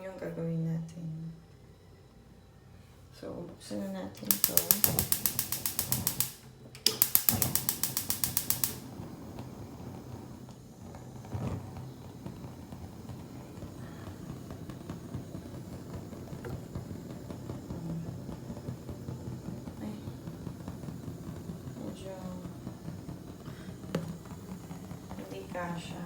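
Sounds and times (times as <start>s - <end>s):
gas stove igniter clicking: 4.2s - 26.0s.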